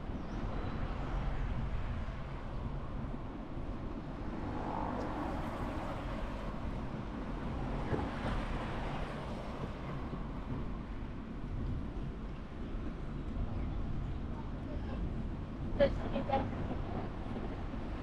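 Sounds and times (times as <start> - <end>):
wind noise on microphone: 0.0 - 4.5, 5.1 - 18.0.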